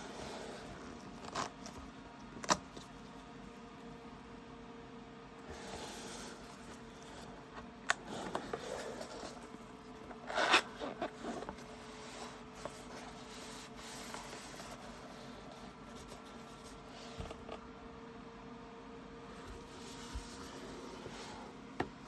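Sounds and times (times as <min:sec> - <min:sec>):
packaging rustling and rubbing: 0:00.0 - 0:03.6, 0:05.4 - 0:17.5, 0:19.4 - 0:22.0.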